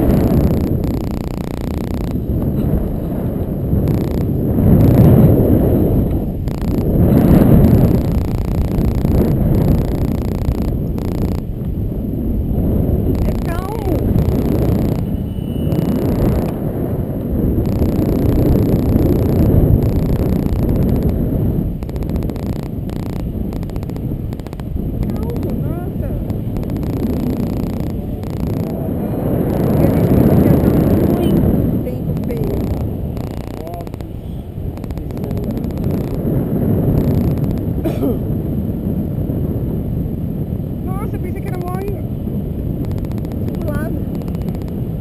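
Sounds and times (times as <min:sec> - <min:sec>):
faint rapid ticking: 0:00.0 - 0:11.8, 0:12.8 - 0:15.1, 0:15.7 - 0:38.0, 0:40.8 - 0:45.0
wind buffeting microphone: 0:00.0 - 0:45.0.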